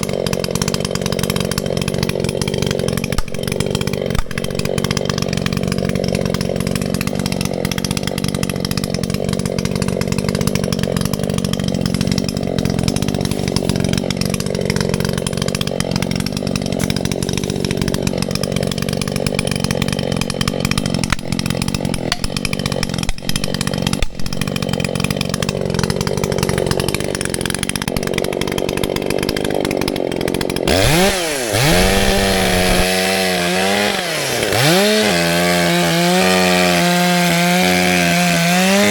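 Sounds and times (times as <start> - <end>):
chainsaw cutting wood: 0.0 - 38.9
chainsaw revving: 0.0 - 38.9.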